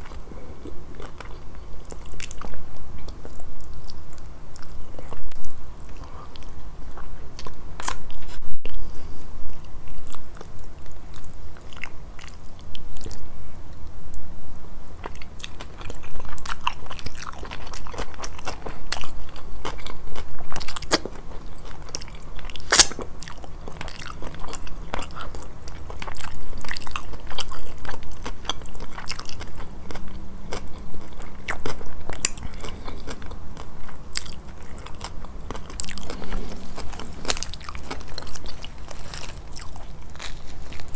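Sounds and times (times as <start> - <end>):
chewing with crisp crunches: 0.0 - 8.4, 9.5 - 14.3, 15.0 - 40.9.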